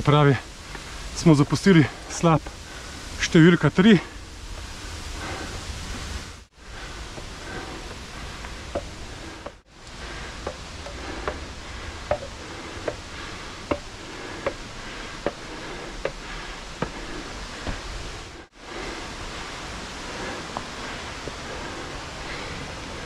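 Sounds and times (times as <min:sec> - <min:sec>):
mountain stream rushing: 0:00.0 - 0:23.0
footsteps on rocky path: 0:00.4 - 0:03.3, 0:04.0 - 0:22.5.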